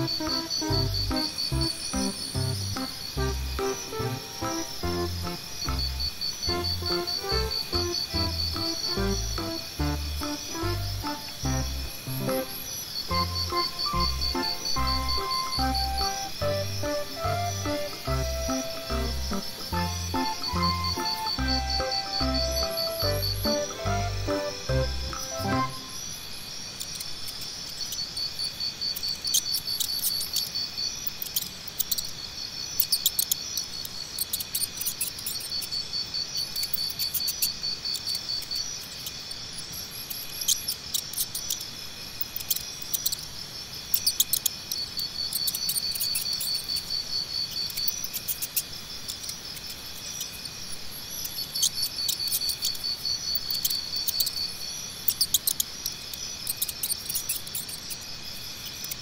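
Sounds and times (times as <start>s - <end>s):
crickets chirping in trills: 0.0s - 59.0s
high insect drone: 0.0s - 59.0s.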